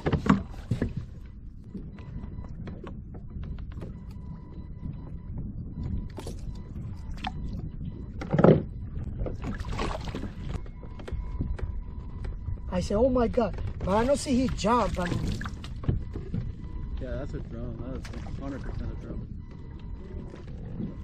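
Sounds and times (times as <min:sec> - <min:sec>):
knocks and clicks in kayak: 0:00.0 - 0:21.0.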